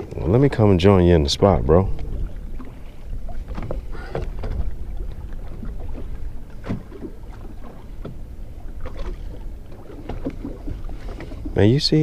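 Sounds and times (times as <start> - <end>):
boat engine rumble: 0.0 - 12.0
water slapping the hull: 0.0 - 12.0.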